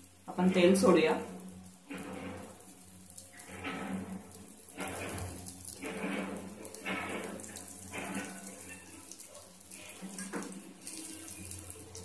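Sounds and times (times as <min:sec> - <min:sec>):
batter sizzling in oil: 0:00.0 - 0:12.0.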